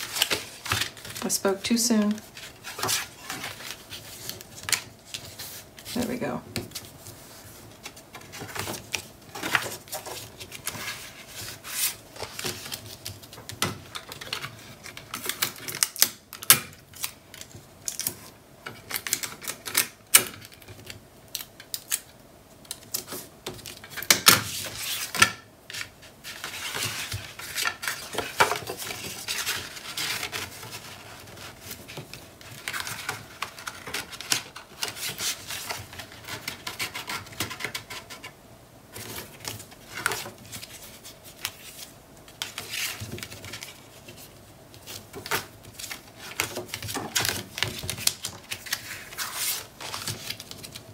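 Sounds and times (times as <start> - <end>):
paper rustling: 0.0 - 15.9, 22.7 - 38.3, 38.9 - 50.9.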